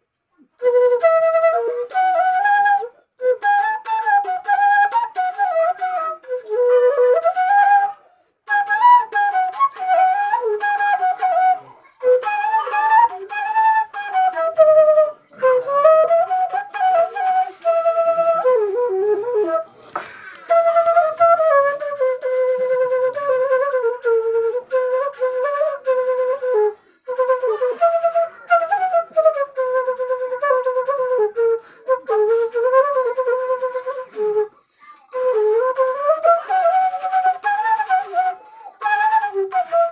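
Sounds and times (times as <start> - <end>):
bamboo flute melody: 0.0 - 39.9.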